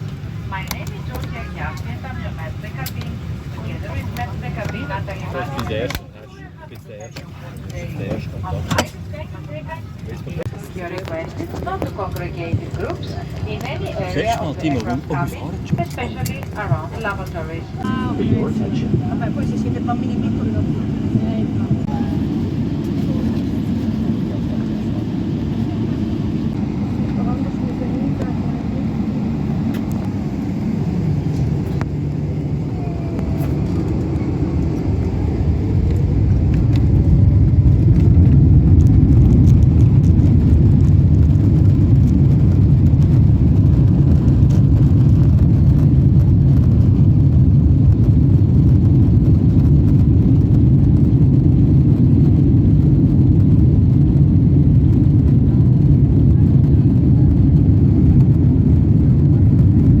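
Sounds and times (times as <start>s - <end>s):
jet engines rumbling inside cabin: 0.0s - 60.0s.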